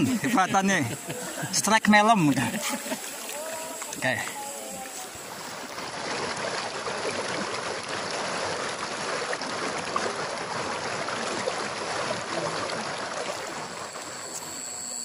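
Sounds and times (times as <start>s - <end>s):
river water rushing over rocks: 0.0s - 14.2s.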